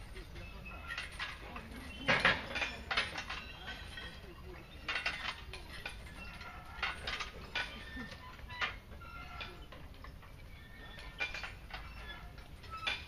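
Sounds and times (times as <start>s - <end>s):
weight plates clanking: 0.0s - 13.0s.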